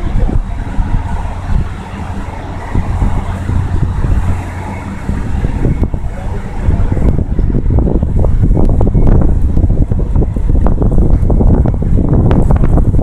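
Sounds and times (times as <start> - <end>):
low steady rumble: 0.0 - 13.0
wind buffeting microphone: 0.0 - 13.0.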